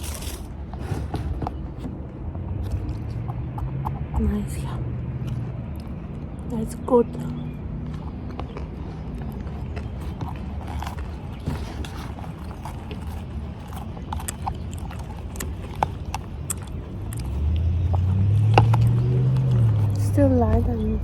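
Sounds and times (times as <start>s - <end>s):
person chewing crunchy food: 0.0s - 4.2s, 4.8s - 20.2s
steady low rumble: 0.0s - 21.0s.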